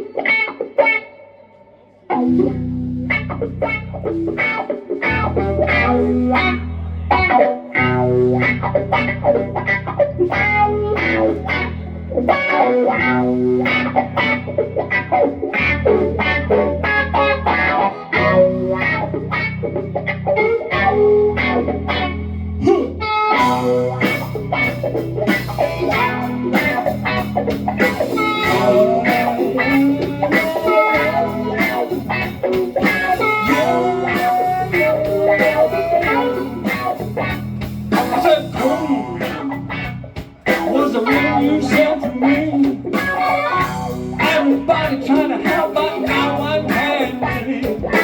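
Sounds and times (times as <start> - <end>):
bass guitar: 0.0 - 48.0
electric guitar: 0.0 - 48.0
drums: 2.1 - 48.0.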